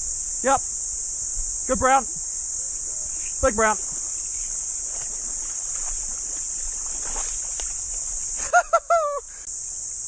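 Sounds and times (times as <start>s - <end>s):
cicadas chorus: 0.0s - 10.0s.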